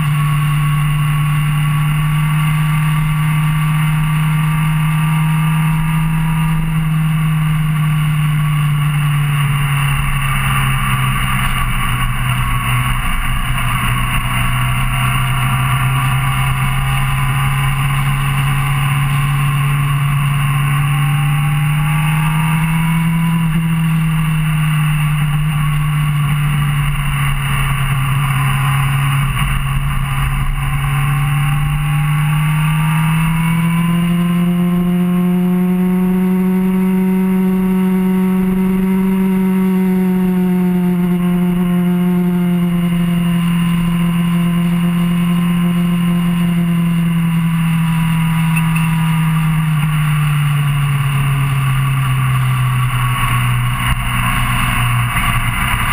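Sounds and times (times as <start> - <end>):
motorcycle engine cruising: 0.0 - 55.9
wind and road rush: 0.0 - 55.9.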